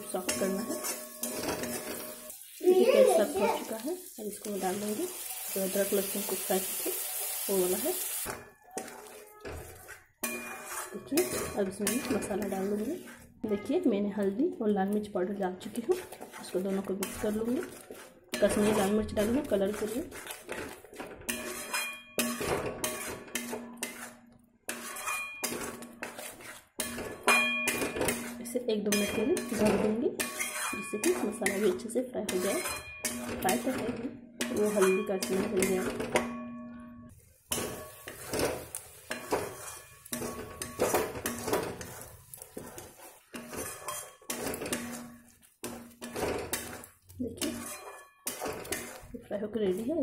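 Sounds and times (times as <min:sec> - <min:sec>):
spatula scraping metal pan: 0:00.0 - 0:03.7, 0:04.5 - 0:14.3, 0:15.2 - 0:36.6, 0:37.4 - 0:50.0.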